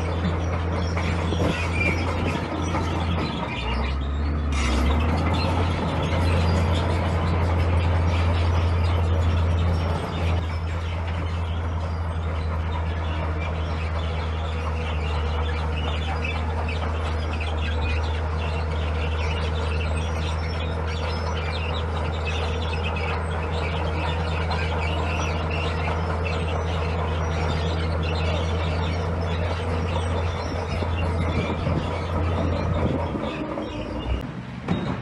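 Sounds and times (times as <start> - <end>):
diesel engine droning: 0.0 - 35.0.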